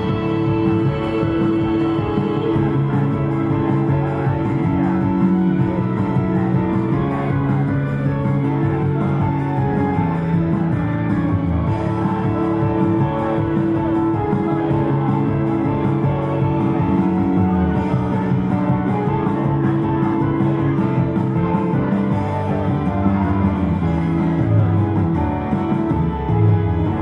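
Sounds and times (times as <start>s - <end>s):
pop-rock music with electric guitar: 0.0s - 27.0s.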